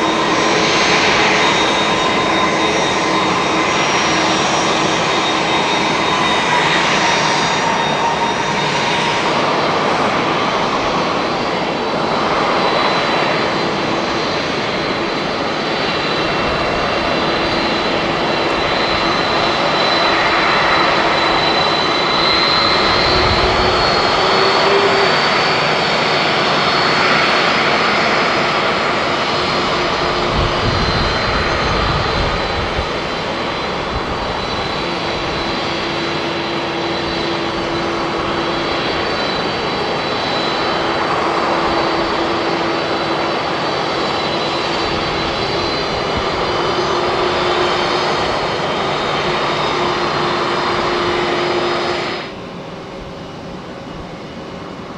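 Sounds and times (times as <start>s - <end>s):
jet engines roaring at takeoff: 0.0s - 54.9s
thin high engine whine: 0.0s - 54.9s.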